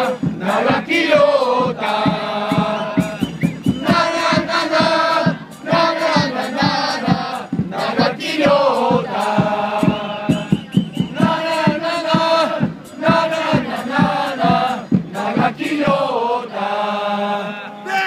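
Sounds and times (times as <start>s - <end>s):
drum beating steadily: 0.0s - 17.2s
crowd chanting in unison: 0.0s - 18.0s.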